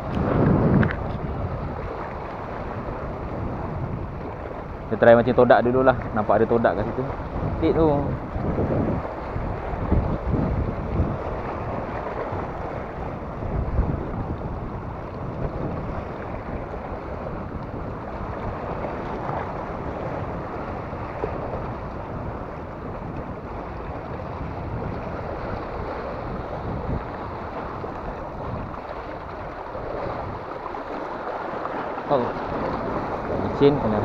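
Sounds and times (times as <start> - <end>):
sea waves breaking over rocks: 0.0 - 34.0
wind buffeting microphone: 0.0 - 34.0.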